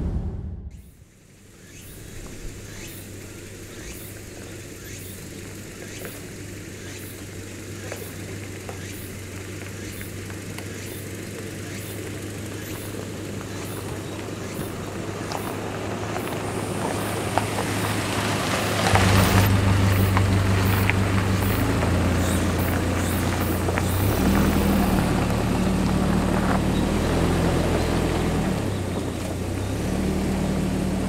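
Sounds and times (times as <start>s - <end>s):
vehicle engine hum on gravel: 1.1s - 31.0s.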